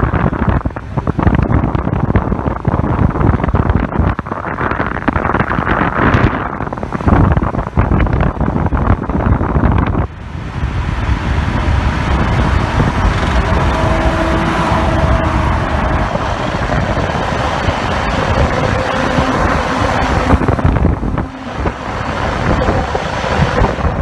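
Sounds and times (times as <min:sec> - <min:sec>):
tyre and road noise: 0:00.0 - 0:24.0
wind buffeting microphone: 0:00.0 - 0:24.0.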